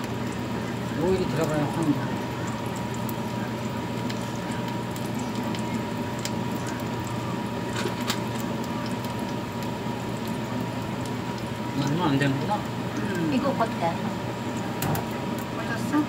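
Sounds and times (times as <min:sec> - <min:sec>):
constant hum: 0:00.0 - 0:16.0
pancakes sizzling in oil: 0:00.0 - 0:16.0.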